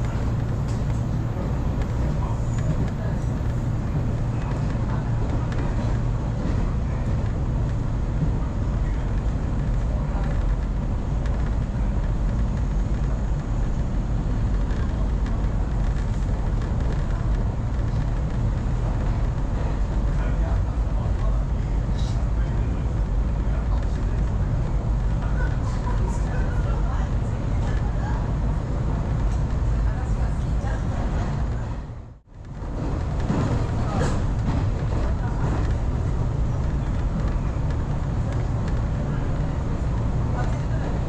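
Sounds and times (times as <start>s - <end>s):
train rumble: 0.0s - 41.0s.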